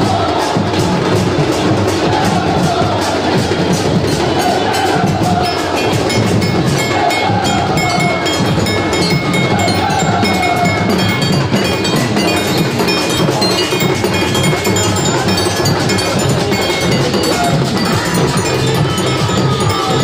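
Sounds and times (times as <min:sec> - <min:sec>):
barrel drums beating fast: 0:00.0 - 0:20.0
clanging metal cymbals: 0:03.4 - 0:20.0.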